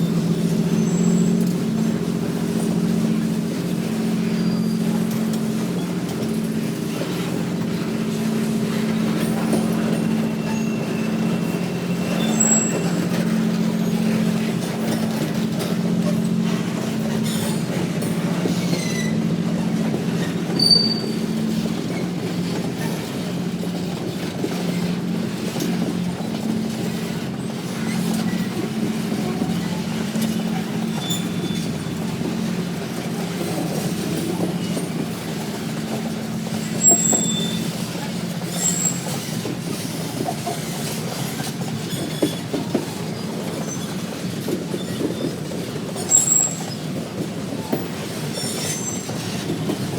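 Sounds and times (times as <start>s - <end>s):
freight train rumbling: 0.0s - 49.9s
train wheel squeals: 0.0s - 49.9s.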